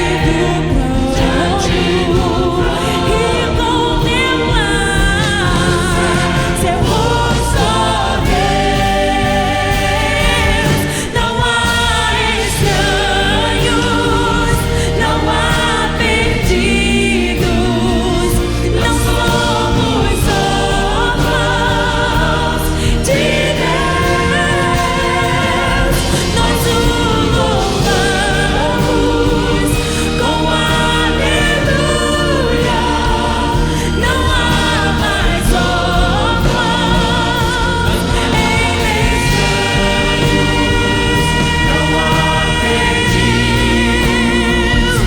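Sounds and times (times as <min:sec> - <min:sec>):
choir singing gospel: 0:00.0 - 0:45.0
instrumental accompaniment: 0:00.0 - 0:45.0.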